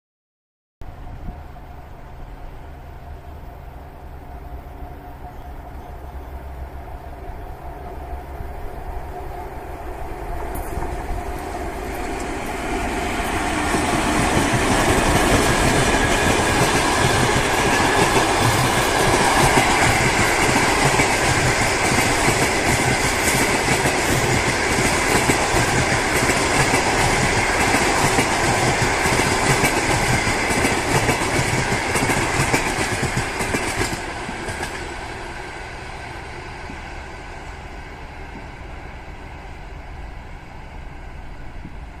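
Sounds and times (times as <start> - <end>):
train passing: 0.8 - 42.0.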